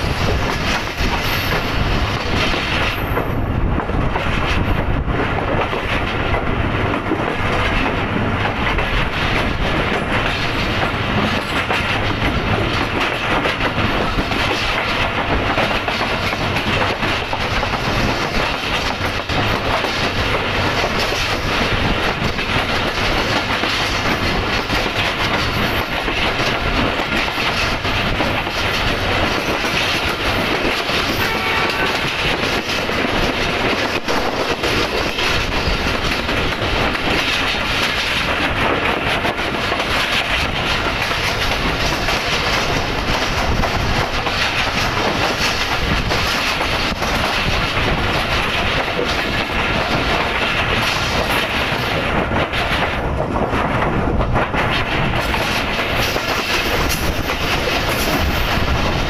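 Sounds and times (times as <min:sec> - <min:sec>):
train coaches rumbling: 0:00.0 - 0:59.0
wheels clacking over rails: 0:00.0 - 0:59.0.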